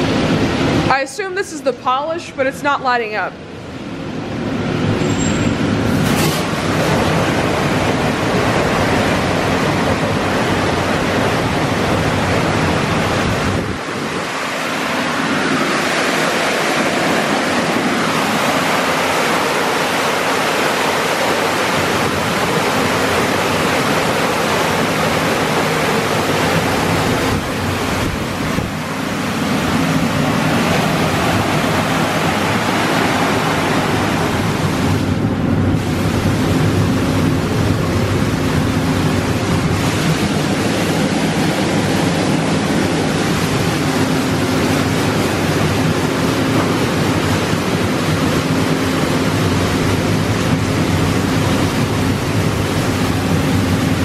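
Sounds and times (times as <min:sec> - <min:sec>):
low pump hum: 0:02.9 - 0:54.0.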